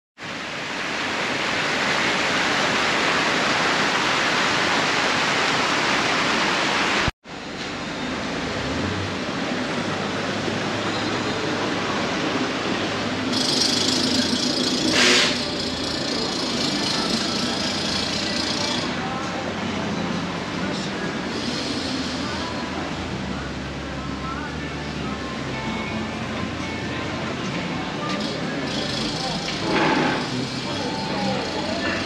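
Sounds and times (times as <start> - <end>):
car traffic: 0.2 - 32.0.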